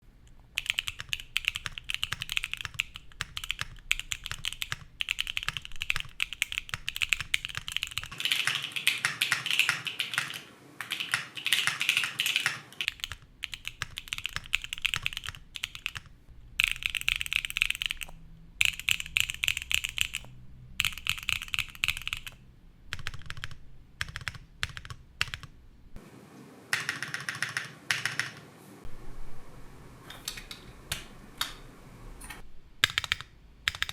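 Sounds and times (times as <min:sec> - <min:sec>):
mechanical keyboard typing: 0:00.3 - 0:25.5, 0:26.7 - 0:28.4, 0:32.8 - 0:33.9.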